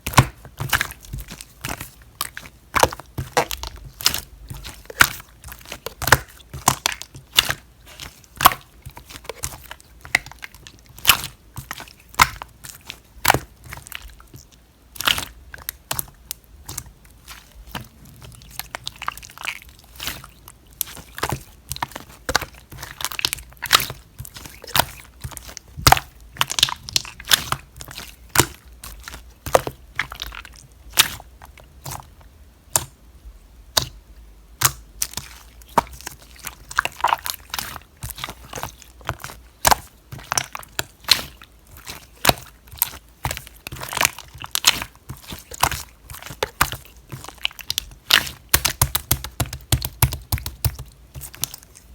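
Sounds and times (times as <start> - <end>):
slime popping and crackling: 0.0 - 32.1, 34.6 - 51.9.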